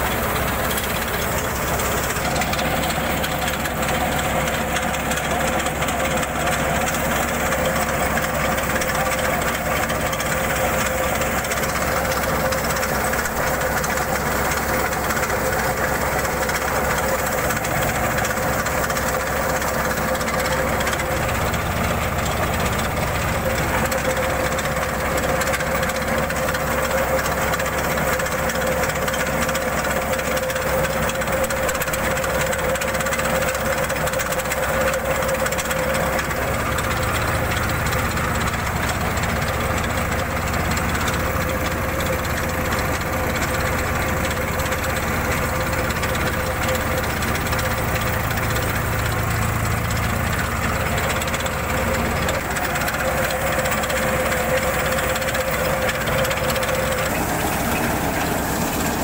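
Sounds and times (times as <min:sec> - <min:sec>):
thresher drum humming: 0:00.0 - 0:59.0
tractor diesel engine rumble: 0:00.0 - 0:59.0.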